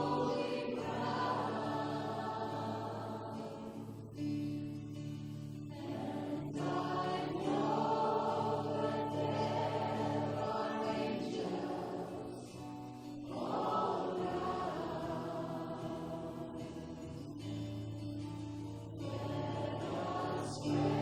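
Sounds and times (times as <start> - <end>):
congregation singing: 0.0 - 21.0.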